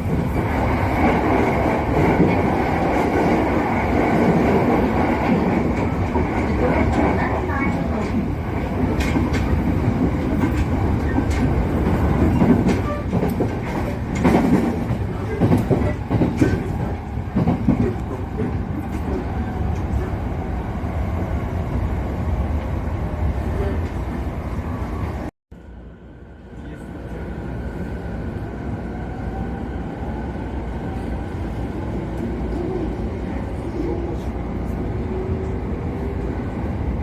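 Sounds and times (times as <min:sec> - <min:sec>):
electric train rumbling on rails: 0:00.0 - 0:37.0.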